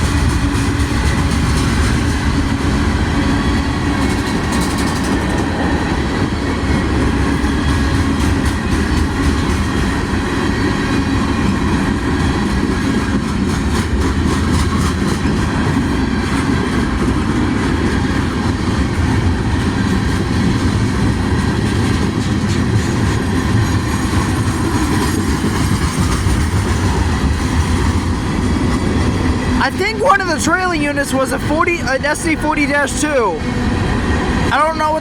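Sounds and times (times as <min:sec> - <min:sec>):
wheels clicking over rail joints: 0:00.0 - 0:29.6
freight train rumbling past: 0:00.0 - 0:35.0.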